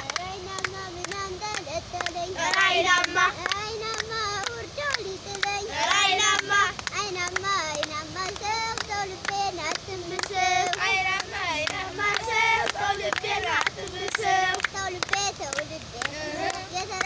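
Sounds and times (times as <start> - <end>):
hand-clapping in time: 0.0 - 17.0
young voices singing together: 0.0 - 17.0.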